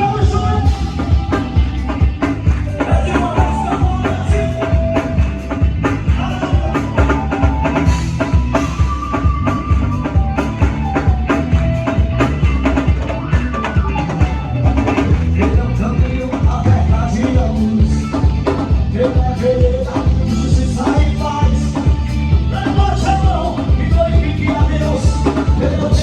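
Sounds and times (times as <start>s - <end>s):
live band instrumental music: 0.0s - 26.0s
drum kit beat: 0.3s - 26.0s.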